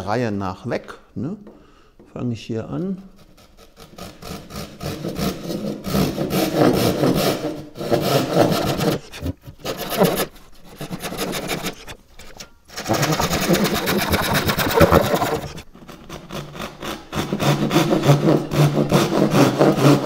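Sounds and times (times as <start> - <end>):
handsaw rasping strokes: 2.9 - 20.0.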